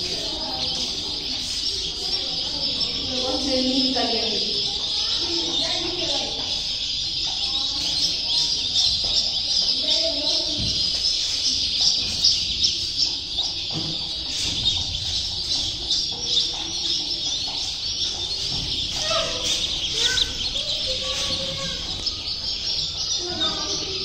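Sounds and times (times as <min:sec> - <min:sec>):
ducklings peeping: 0:00.0 - 0:24.0.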